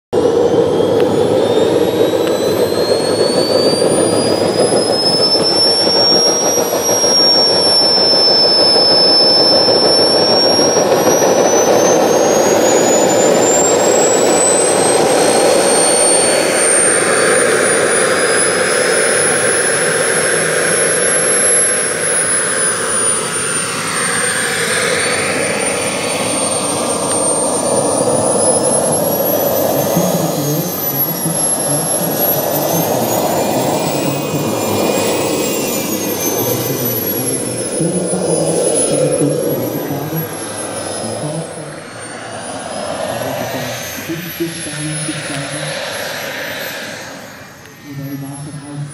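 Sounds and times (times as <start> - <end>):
model turbine whine: 0.1 - 48.9.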